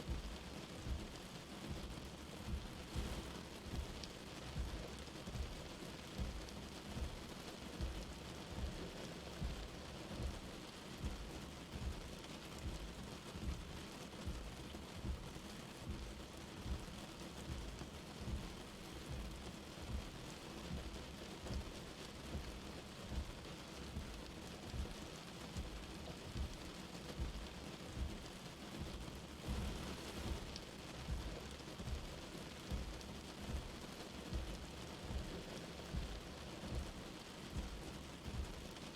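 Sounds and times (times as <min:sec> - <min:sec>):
light rain pattering: 0:00.0 - 0:38.9
soft low thumps: 0:00.1 - 0:05.6, 0:06.2 - 0:08.8, 0:09.4 - 0:25.0, 0:25.6 - 0:38.7.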